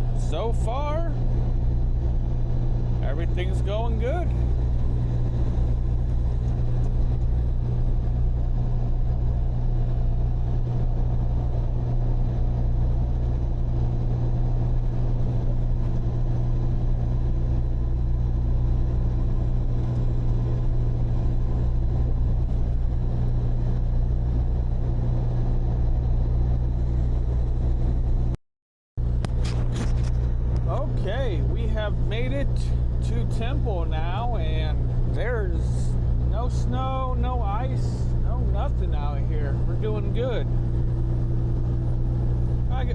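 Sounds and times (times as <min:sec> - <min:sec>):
truck diesel engine droning: 0:00.0 - 0:25.0, 0:29.0 - 0:42.9.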